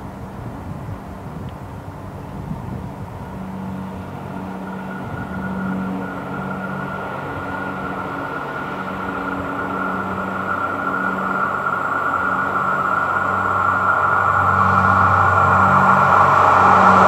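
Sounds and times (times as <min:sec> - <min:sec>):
approaching train whine: 0:00.0 - 0:17.0.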